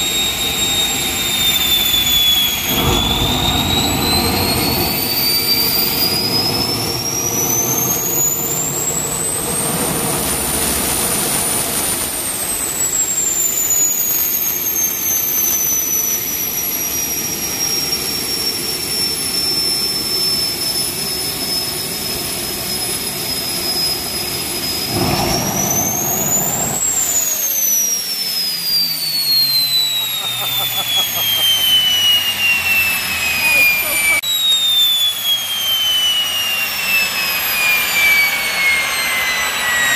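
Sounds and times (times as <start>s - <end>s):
jet turbine whining: 0.0s - 39.9s.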